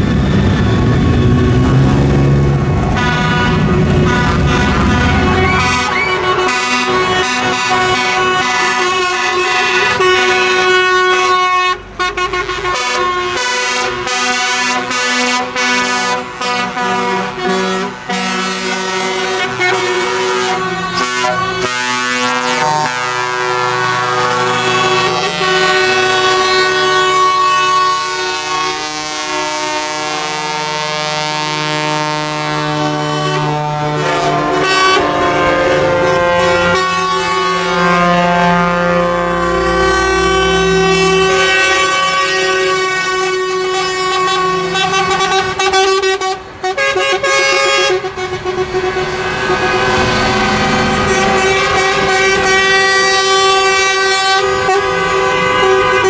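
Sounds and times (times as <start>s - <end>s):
truck air horns: 0.0s - 56.0s
trucks pulling away: 0.0s - 56.0s.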